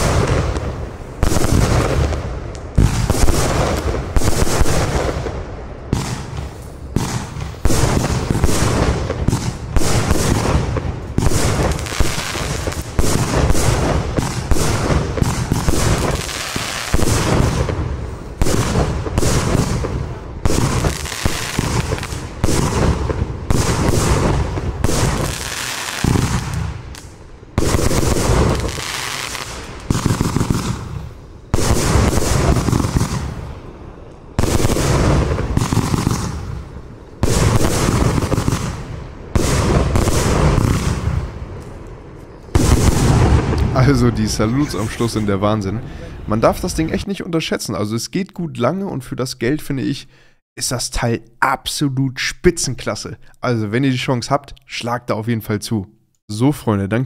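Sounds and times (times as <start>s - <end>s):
firework bursting bangs: 0.0s - 46.9s.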